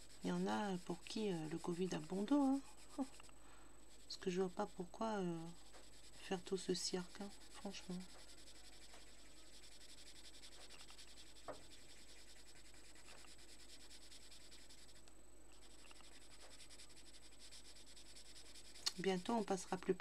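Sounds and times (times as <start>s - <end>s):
pencil scratching on paper: 0.0s - 20.0s.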